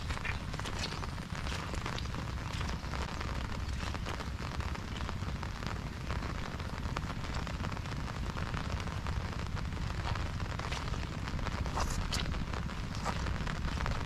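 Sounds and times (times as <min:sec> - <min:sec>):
low rumble: 0:00.0 - 0:14.0
rain patter: 0:00.0 - 0:14.0.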